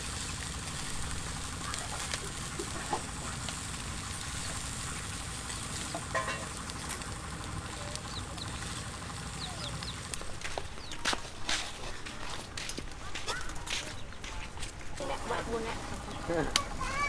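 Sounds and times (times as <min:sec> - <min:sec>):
intestines sizzling on a grill: 0:00.0 - 0:12.0, 0:14.9 - 0:17.0.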